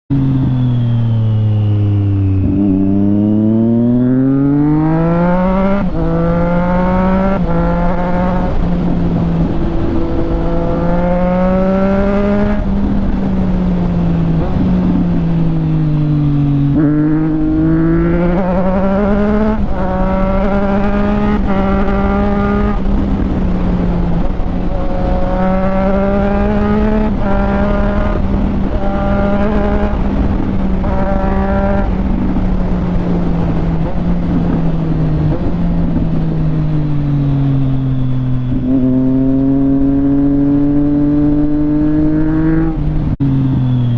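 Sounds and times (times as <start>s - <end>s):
motorcycle engine accelerating: 0.1s - 43.9s.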